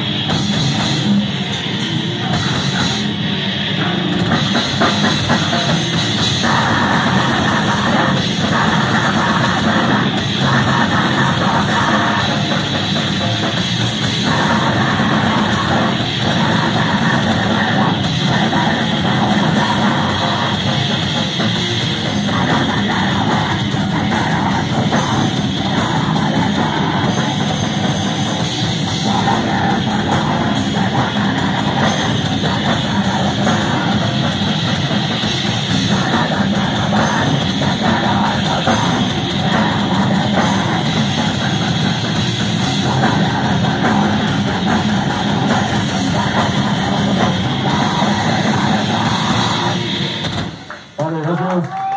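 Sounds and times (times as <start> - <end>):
bass guitar: 0.0 - 51.9
distorted electric guitar: 0.0 - 51.9
drum kit: 0.0 - 51.9.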